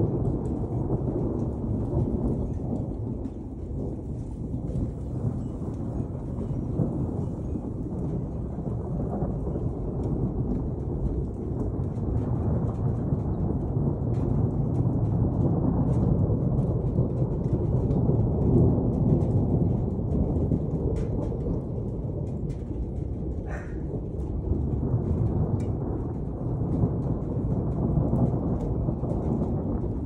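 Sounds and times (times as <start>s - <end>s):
raindrops ticking: 0.0s - 30.0s
rolling thunder: 0.0s - 30.0s
steady rain: 0.0s - 30.0s.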